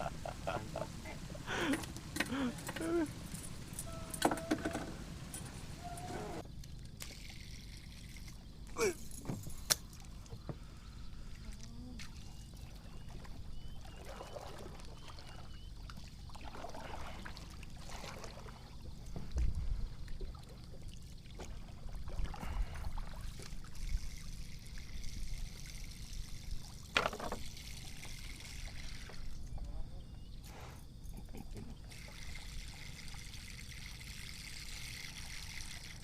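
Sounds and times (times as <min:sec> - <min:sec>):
water trickling and splashing: 0:00.0 - 0:29.7, 0:31.8 - 0:36.0.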